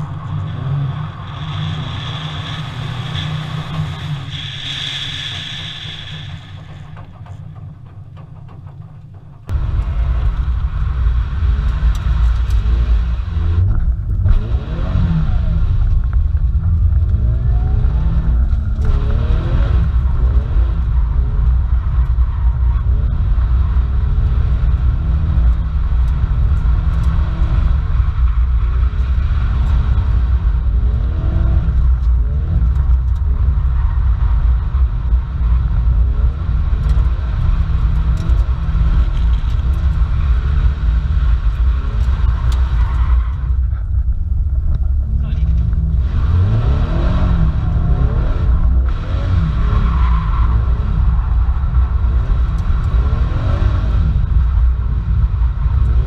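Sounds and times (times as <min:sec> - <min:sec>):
car engine revving: 0:00.0 - 0:56.0
low road rumble: 0:00.0 - 0:56.0.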